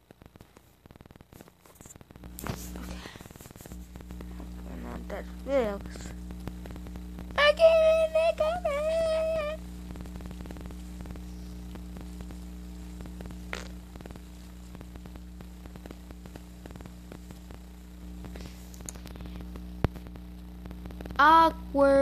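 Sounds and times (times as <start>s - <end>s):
electrical hum and hiss: 0.0s - 22.0s.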